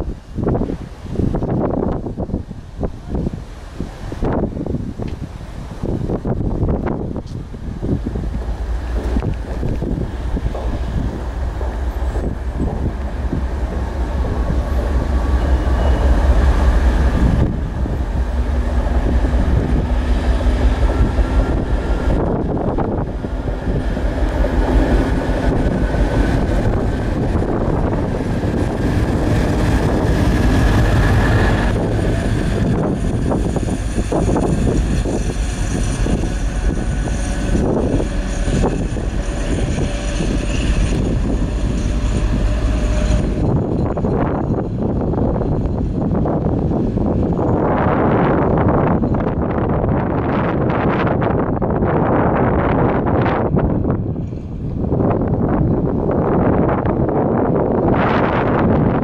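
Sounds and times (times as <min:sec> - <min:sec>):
diesel locomotive passing: 0:00.0 - 0:59.0.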